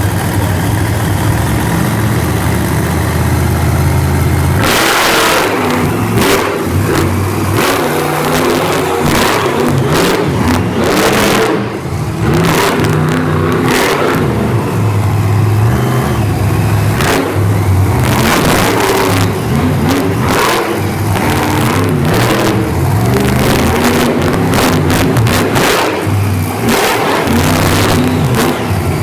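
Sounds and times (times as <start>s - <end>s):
monster truck engines revving: 0.0s - 29.0s.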